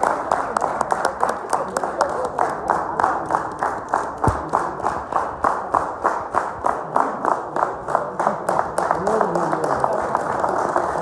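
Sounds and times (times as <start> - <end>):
audience applauding: 0.0 - 11.0
hands clapping close by: 0.0 - 11.0.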